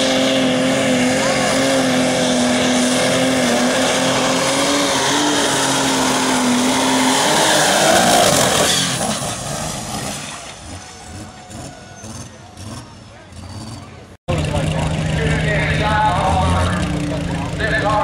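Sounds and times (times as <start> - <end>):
tractor engine running flat out: 0.0 - 18.0.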